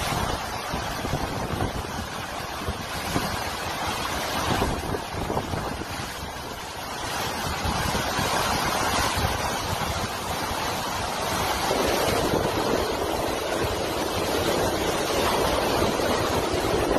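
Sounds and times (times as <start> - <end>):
strong wind buffeting microphone: 0.0 - 16.9.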